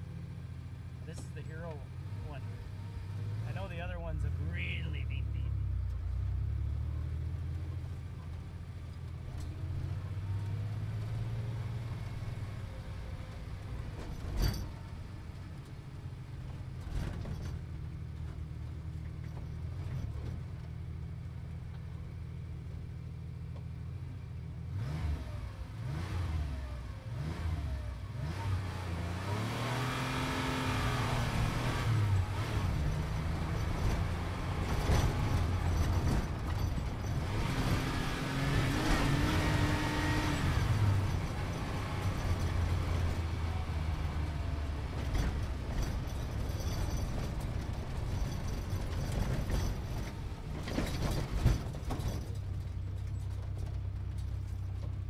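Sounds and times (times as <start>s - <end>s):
road and wind noise: 0.0s - 55.0s
sports car engine: 0.0s - 55.0s.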